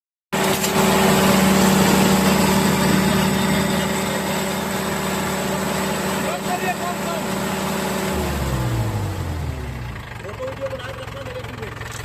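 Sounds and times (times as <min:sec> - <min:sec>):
diesel engine idling: 0:00.4 - 0:12.0.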